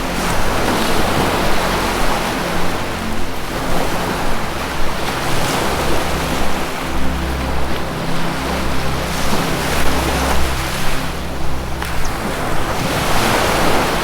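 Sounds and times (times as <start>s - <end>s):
low ambient drone tones: 0.0s - 14.0s
ocean waves washing in: 0.0s - 14.0s.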